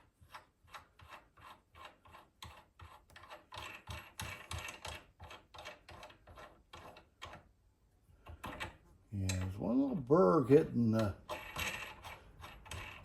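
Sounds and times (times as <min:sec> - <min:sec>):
threading die clicking and scraping: 0:00.0 - 0:07.6, 0:08.2 - 0:09.6, 0:10.5 - 0:13.0.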